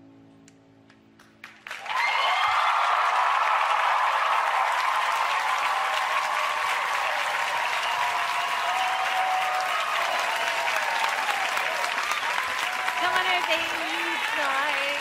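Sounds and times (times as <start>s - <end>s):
audience clapping: 0.9s - 15.0s
whoops and shouts: 1.8s - 15.0s.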